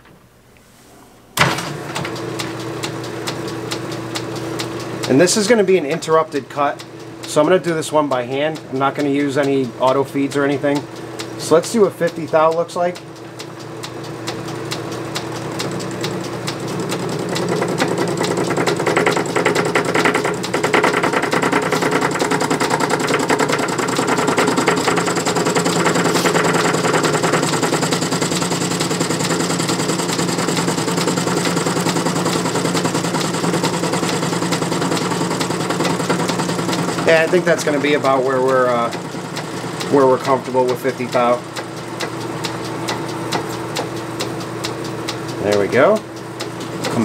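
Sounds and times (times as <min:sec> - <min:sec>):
lathe running hum: 0:01.7 - 0:47.0.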